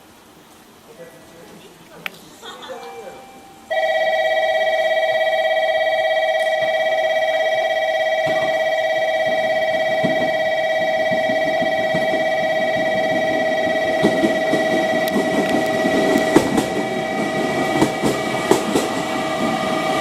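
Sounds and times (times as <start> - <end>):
electric bell ringing: 2.8 - 20.0
train arriving rumble: 2.8 - 20.0.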